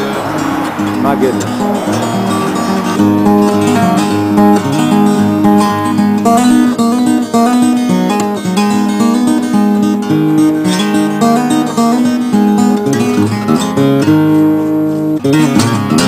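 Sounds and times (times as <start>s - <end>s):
acoustic guitar instrumental: 0.0s - 16.0s
bass line: 1.0s - 13.9s.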